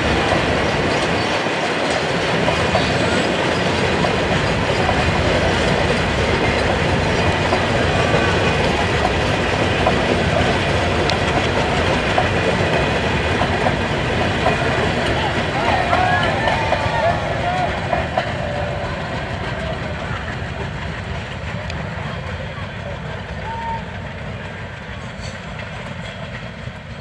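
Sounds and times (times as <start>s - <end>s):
train wheels rolling on rails: 0.0s - 27.0s.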